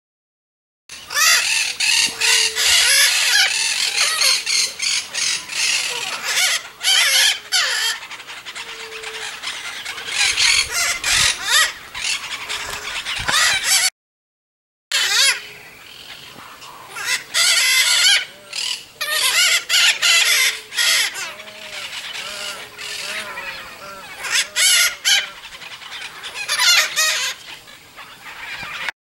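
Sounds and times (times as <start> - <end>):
macaws screeching: 0.9 - 13.9, 14.9 - 28.9.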